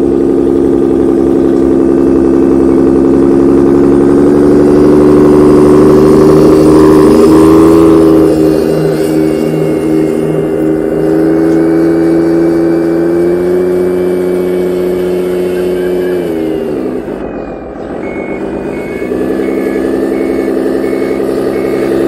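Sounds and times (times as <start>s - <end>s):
diesel truck engine running: 0.0s - 22.0s
reversing beeper: 2.5s - 22.0s.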